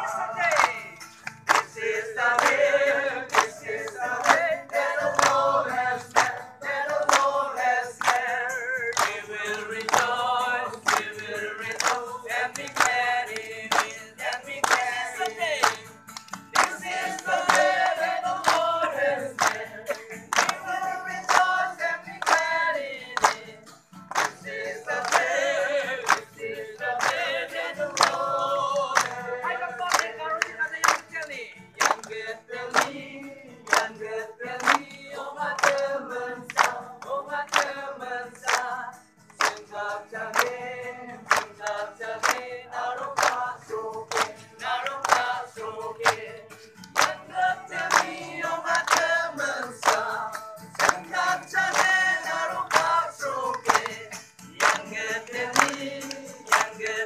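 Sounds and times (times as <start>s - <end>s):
group singing unaccompanied: 0.0s - 31.1s, 31.7s - 57.0s
handclaps: 0.0s - 57.0s.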